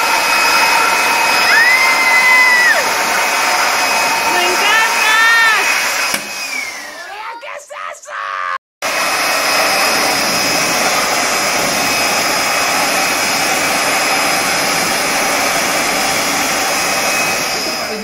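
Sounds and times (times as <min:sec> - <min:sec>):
vacuum cleaner motor running: 0:00.0 - 0:07.2, 0:08.8 - 0:18.0.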